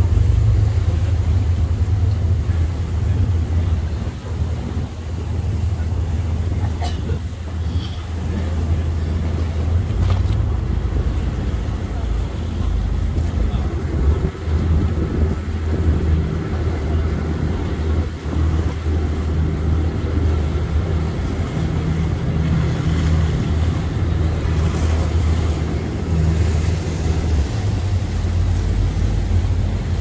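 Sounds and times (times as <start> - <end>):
speedboat engine droning: 0.0 - 30.0
wind and water rushing: 0.0 - 30.0.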